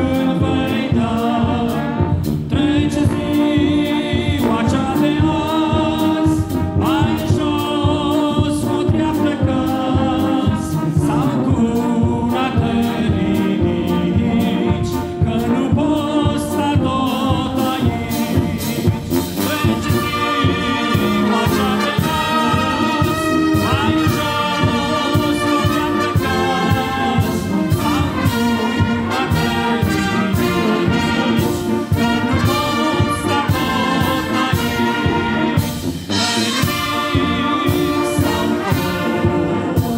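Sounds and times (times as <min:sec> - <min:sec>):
brass band playing a hymn: 0:00.0 - 0:39.9
steady drum beat: 0:00.0 - 0:39.9
solo trumpet: 0:01.7 - 0:39.9.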